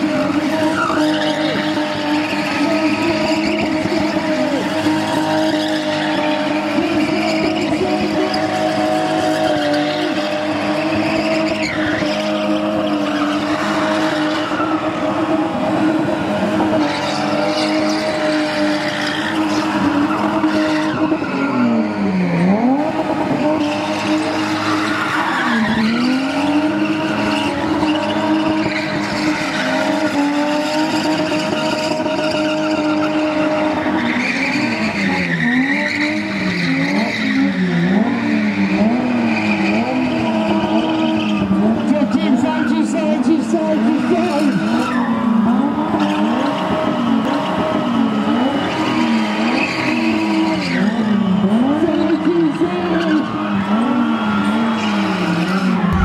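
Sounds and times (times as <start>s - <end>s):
tyres squealing on tarmac: 0.0s - 15.3s, 16.6s - 22.8s, 23.4s - 56.0s
car engines revving high: 0.0s - 56.0s.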